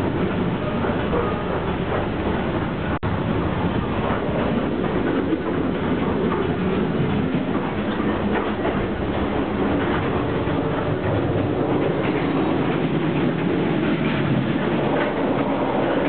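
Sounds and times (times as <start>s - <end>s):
train rumbling and rattling on rails: 0.0s - 16.0s.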